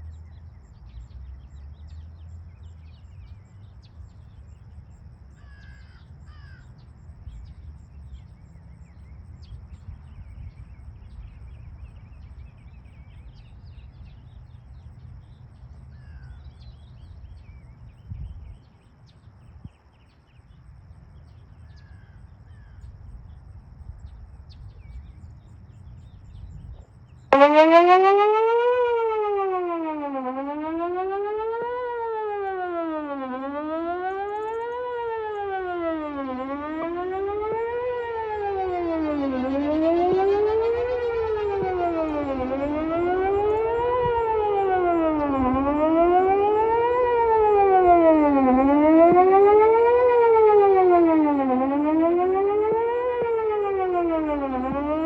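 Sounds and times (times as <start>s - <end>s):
distant warning siren wailing: 0.0s - 19.7s, 20.7s - 55.0s.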